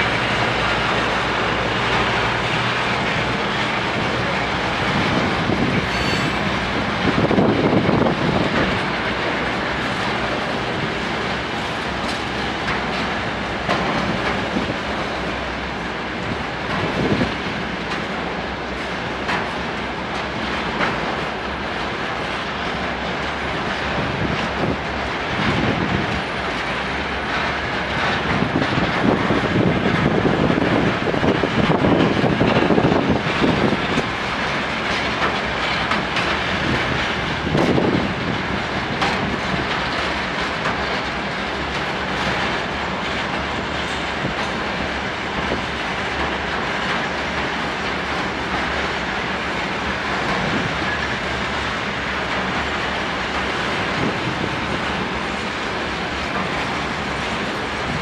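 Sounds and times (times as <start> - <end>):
freight train rumbling: 0.0 - 58.0
train wheels clattering: 0.0 - 58.0.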